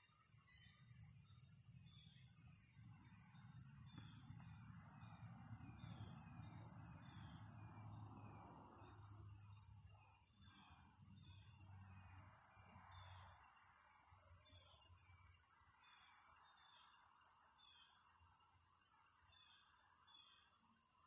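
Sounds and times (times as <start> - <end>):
insect chirps: 0.0 - 21.0
insects buzzing: 0.2 - 21.0.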